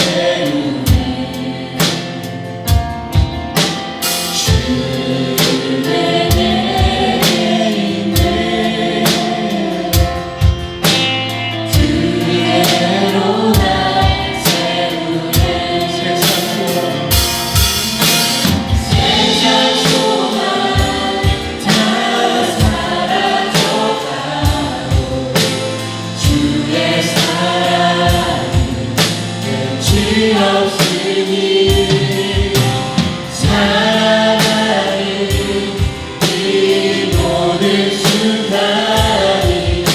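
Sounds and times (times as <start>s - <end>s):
band and singers performing: 0.0s - 39.9s
drum kit beat: 0.0s - 39.9s.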